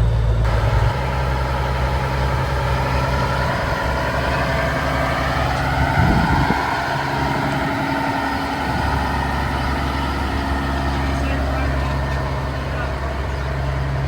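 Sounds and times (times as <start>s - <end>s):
truck engine running at low revs: 0.0s - 14.0s.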